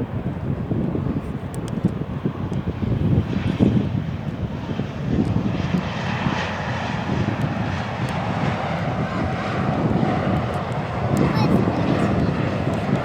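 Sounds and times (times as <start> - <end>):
jet engine noise: 0.0 - 13.0
wind buffeting microphone: 0.0 - 13.0.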